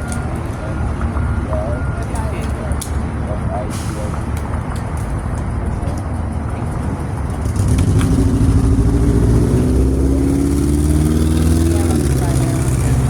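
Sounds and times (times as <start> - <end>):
diesel truck engine accelerating: 0.0 - 13.0.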